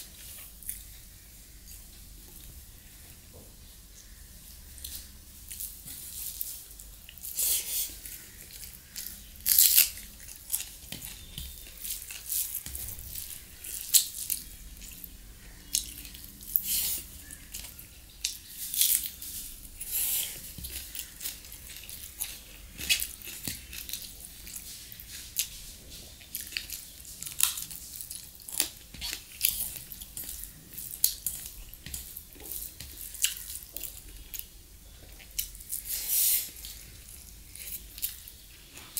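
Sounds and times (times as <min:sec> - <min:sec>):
person chewing food: 0:04.0 - 0:38.9.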